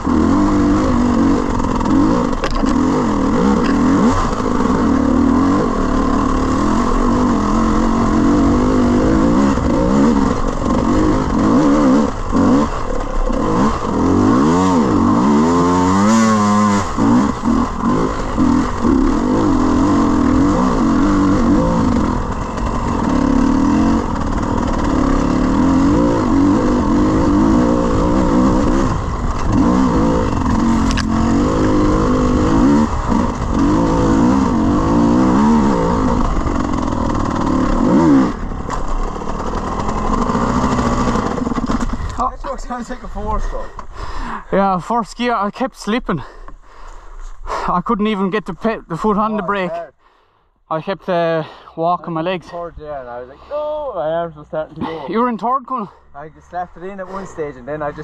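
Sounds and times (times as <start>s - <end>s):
dirt bike engine revving: 0.0s - 46.4s, 47.5s - 49.8s.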